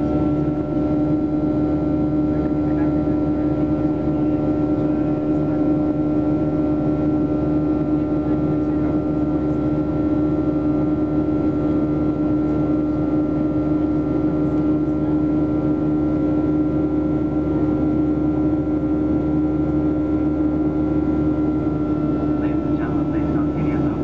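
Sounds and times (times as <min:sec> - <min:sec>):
jet engines droning in cabin: 0:00.0 - 0:24.0.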